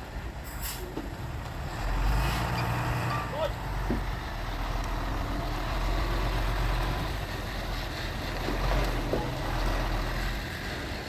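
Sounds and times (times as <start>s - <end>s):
heavy diesel engine running: 0.0s - 11.0s.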